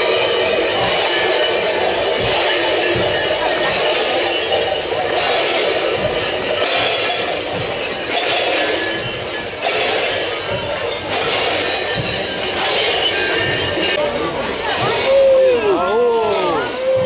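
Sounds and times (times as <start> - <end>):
costume bells jingling: 0.0 - 17.0.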